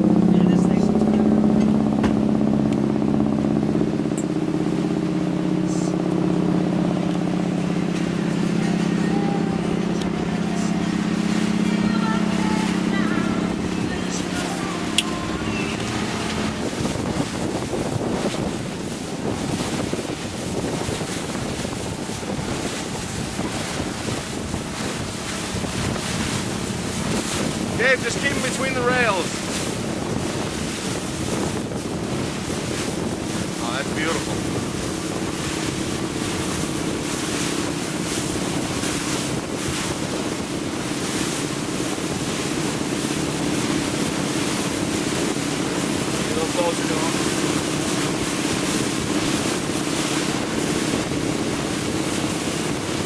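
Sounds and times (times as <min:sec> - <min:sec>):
water rushing past boat: 0:00.0 - 0:53.0
wind buffeting microphone: 0:00.0 - 0:53.0.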